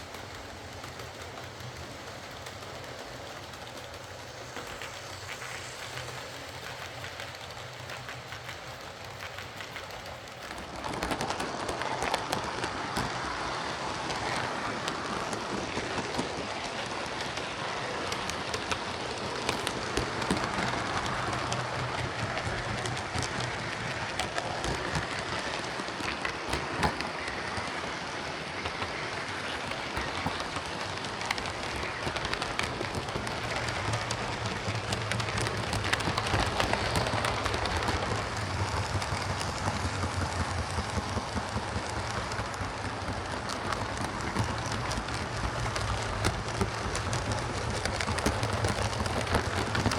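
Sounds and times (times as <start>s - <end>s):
model train motor whirring: 0.0s - 49.9s
wheels clicking over rails: 0.0s - 49.9s.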